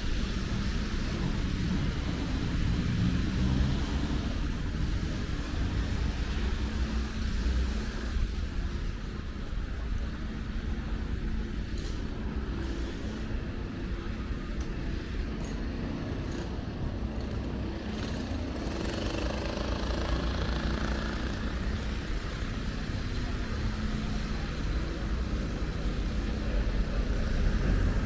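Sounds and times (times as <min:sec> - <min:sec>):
motor vehicles passing: 0:00.0 - 0:09.5, 0:12.8 - 0:28.0.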